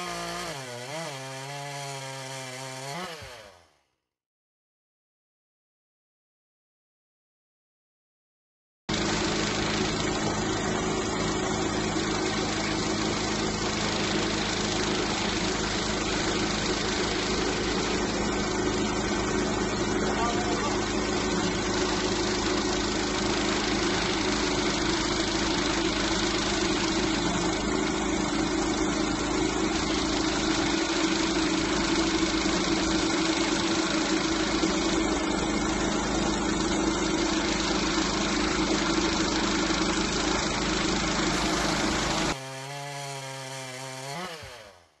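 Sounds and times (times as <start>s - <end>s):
bandsaw mill cutting log: 0.0s - 3.6s, 8.9s - 45.0s.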